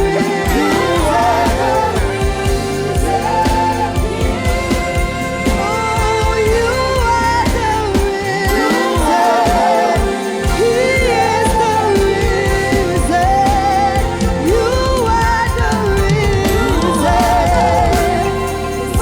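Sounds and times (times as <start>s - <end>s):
gospel band playing: 0.0s - 19.0s
person singing lead: 0.0s - 19.0s.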